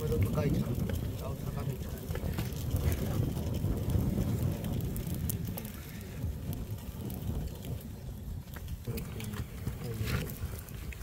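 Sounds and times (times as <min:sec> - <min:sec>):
small clicks and crackles: 0:00.0 - 0:11.0
wind buffeting microphone: 0:00.0 - 0:11.0.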